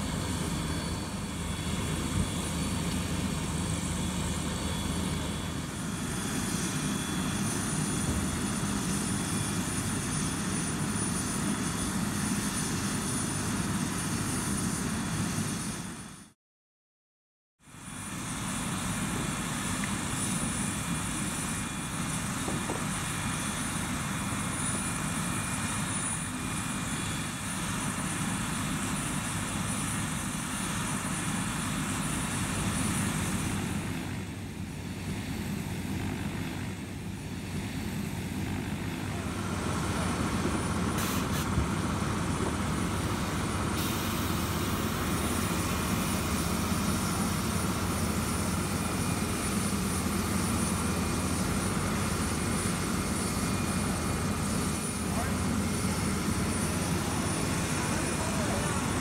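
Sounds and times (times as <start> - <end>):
helicopter engine and rotor drone: 0.0 - 16.4, 17.6 - 59.0.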